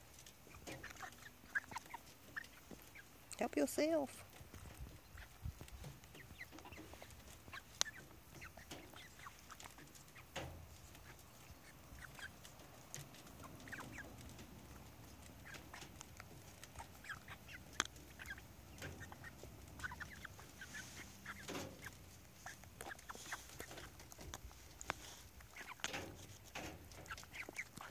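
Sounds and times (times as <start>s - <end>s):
hens clucking softly: 0.0s - 27.9s.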